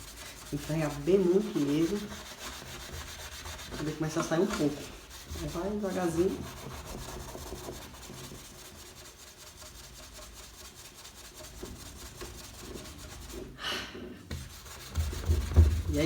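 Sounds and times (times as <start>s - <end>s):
steel wool scrubbing glass: 0.0s - 13.6s, 14.4s - 16.0s.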